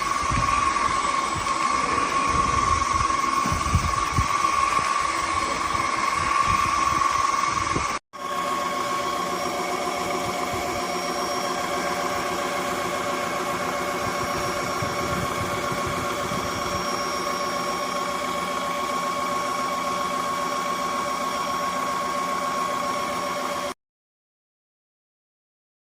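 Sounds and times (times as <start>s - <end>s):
vacuum mop motor whine: 0.0s - 23.8s.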